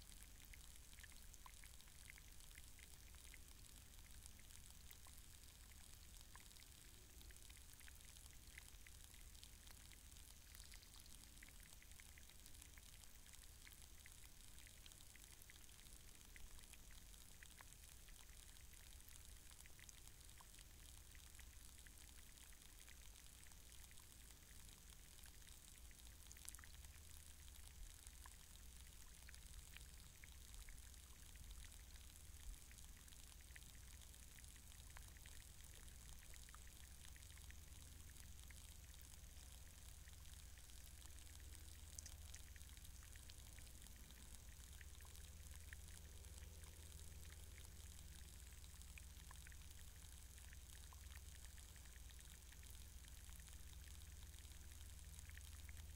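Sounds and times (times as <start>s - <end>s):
tiny underwater clicks: 0.0s - 55.9s.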